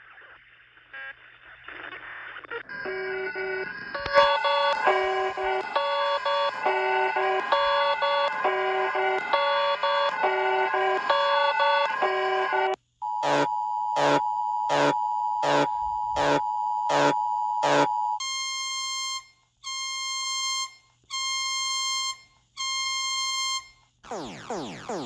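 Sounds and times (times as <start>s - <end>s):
two-tone alert signal: 2.8s - 25.0s.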